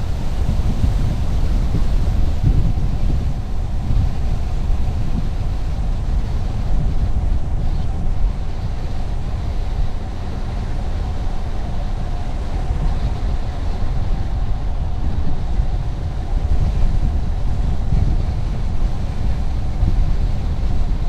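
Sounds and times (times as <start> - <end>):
road rumble and tyre noise: 0.0 - 21.0.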